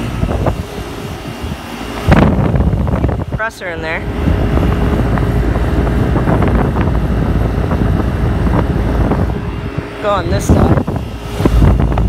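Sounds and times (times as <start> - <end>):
condenser fan air rush: 0.0 - 12.0
low hum: 0.0 - 12.0.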